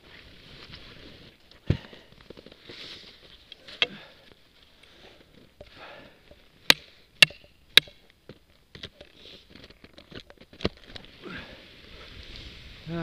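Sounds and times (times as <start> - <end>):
ski gear clicks and crunches: 0.0 - 12.6.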